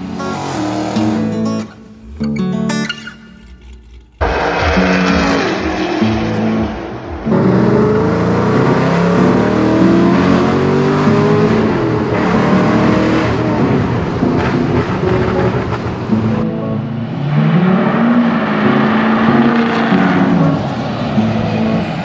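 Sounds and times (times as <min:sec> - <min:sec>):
car engines revving and accelerating: 0:00.0 - 0:22.0
music: 0:00.0 - 0:22.0.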